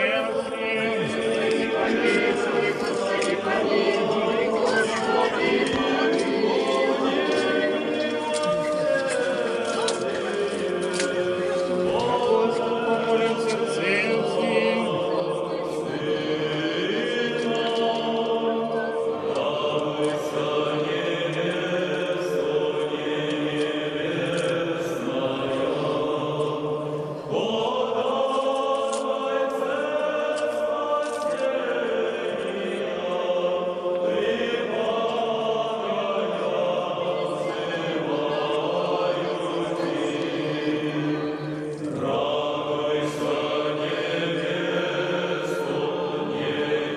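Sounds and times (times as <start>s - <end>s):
group chanting a hymn: 0.0s - 46.9s.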